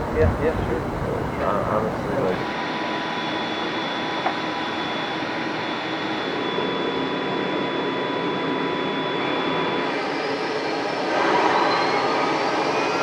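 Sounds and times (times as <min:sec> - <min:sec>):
helicopter turbine engines roaring: 0:00.0 - 0:13.0.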